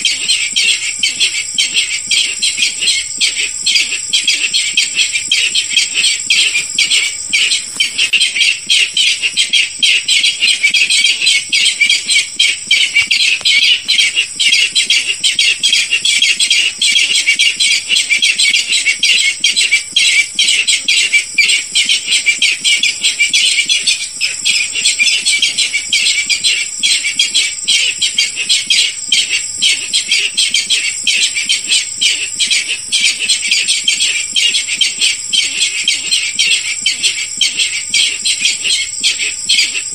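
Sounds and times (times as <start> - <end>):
bird calling harsh notes: 0.0 - 39.9.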